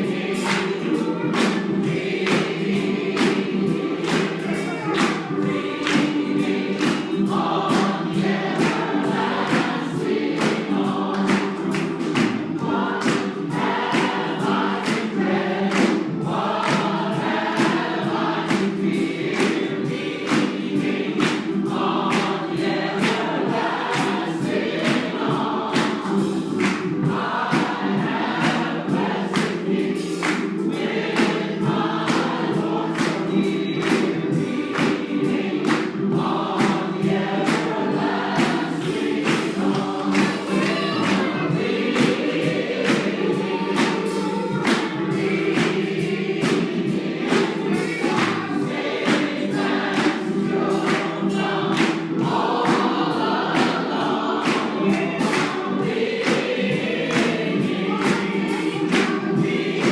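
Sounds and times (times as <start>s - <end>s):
congregation singing gospel: 0.0s - 59.9s
steady beat of sharp hits: 0.0s - 59.9s.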